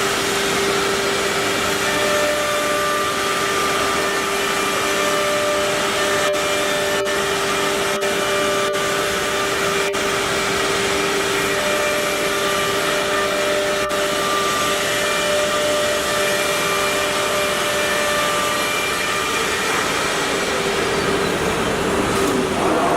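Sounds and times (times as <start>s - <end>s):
cnc router spindle whine: 0.0s - 22.9s.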